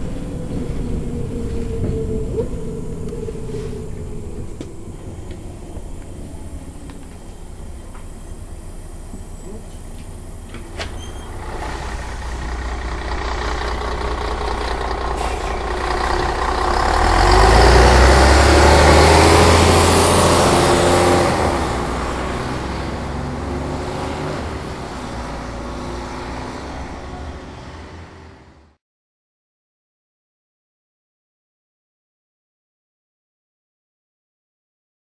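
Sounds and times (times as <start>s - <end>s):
bus engine pulling under load: 0.0s - 28.8s.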